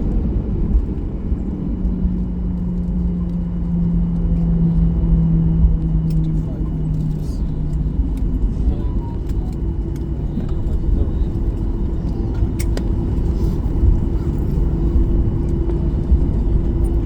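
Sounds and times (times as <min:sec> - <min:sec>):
aircraft engines rumbling: 0:00.0 - 0:17.0.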